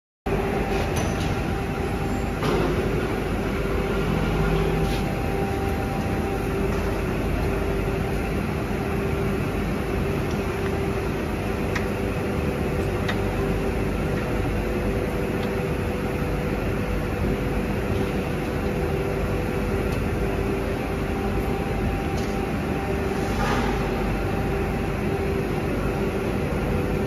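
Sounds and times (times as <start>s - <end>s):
mid-pitched hum: 0.3s - 27.0s
workshop machinery drone: 0.3s - 27.0s.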